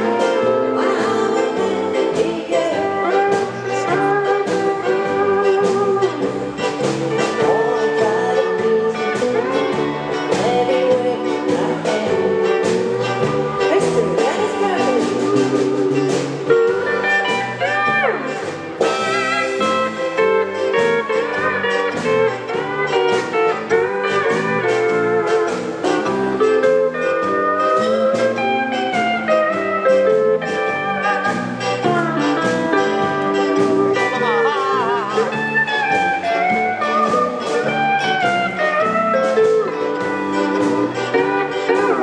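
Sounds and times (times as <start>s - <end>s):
guitar notes bending in pitch: 0.0s - 42.0s
live rock band music: 0.0s - 42.0s.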